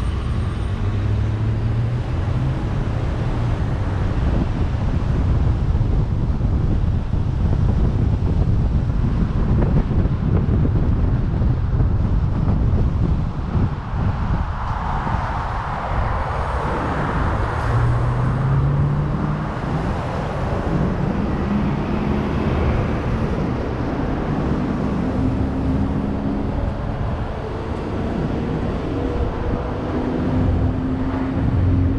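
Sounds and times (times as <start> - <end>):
engine and tyres rumbling: 0.0 - 31.9
wind on microphone: 0.0 - 31.9.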